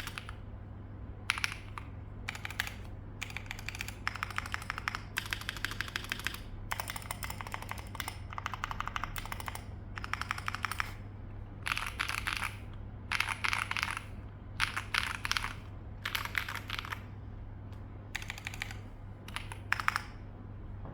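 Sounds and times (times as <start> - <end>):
typing on mechanical keyboard: 0.0 - 0.4, 1.3 - 11.0, 11.6 - 17.1, 18.1 - 20.2.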